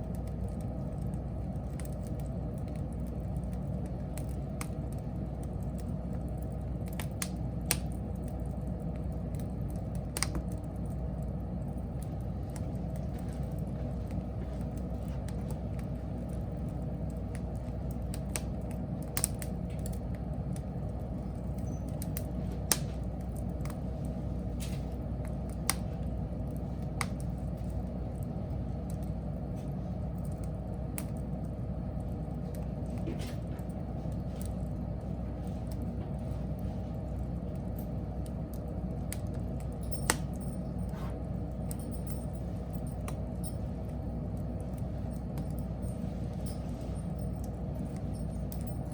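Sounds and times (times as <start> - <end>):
wood crackling and popping: 0.0 - 48.9
wood fire rumbling: 0.0 - 48.9.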